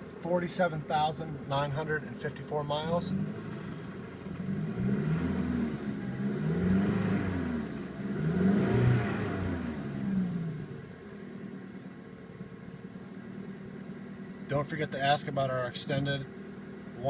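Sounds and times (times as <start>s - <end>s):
car engine revving from idle: 0.0s - 17.0s.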